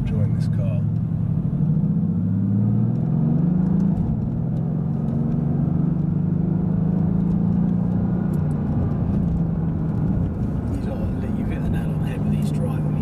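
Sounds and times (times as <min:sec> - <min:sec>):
car engine running: 0:00.0 - 0:13.0
tyre and road rumble: 0:00.0 - 0:13.0.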